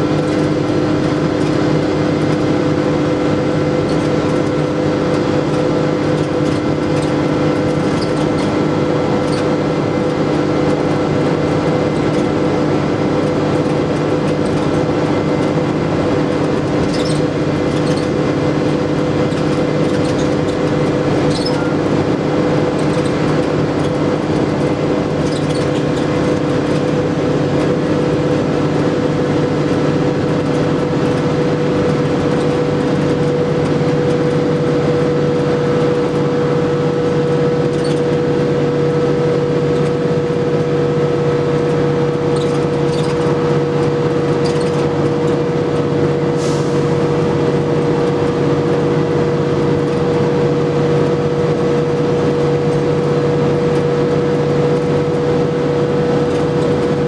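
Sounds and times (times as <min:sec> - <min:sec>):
bus engine drone and whine: 0:00.0 - 0:57.0
road noise: 0:00.0 - 0:57.0.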